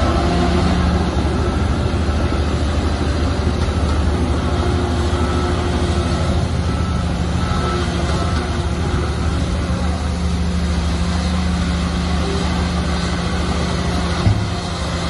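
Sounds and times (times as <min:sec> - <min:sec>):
diesel earthmoving machinery running: 0:00.0 - 0:15.0.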